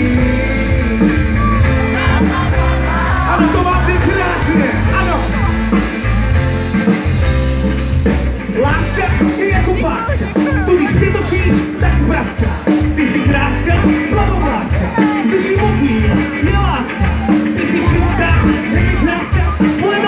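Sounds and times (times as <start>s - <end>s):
man singing: 0.0s - 5.4s, 8.5s - 20.0s
live band playing: 0.0s - 20.0s.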